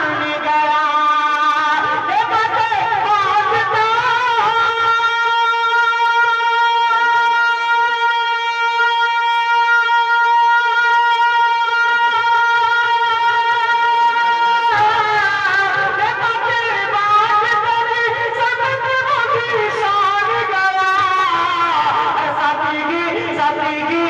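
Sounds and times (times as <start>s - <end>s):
person singing: 0.0s - 24.0s.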